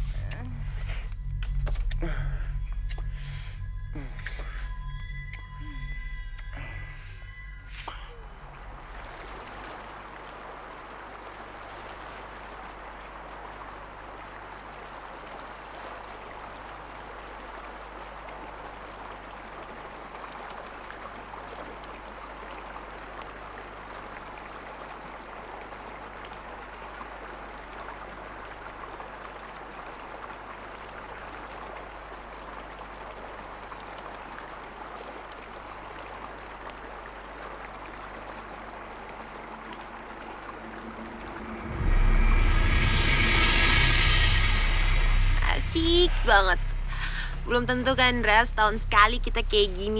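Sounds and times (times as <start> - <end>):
faint low hum: 0.0 - 49.9
stream flowing over rocks: 6.3 - 49.9.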